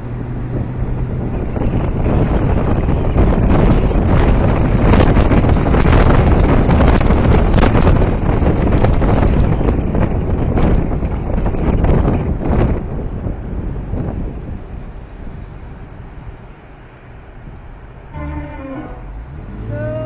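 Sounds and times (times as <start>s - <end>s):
car driving on road rumble: 0.0s - 20.0s
wind buffeting microphone: 0.0s - 20.0s.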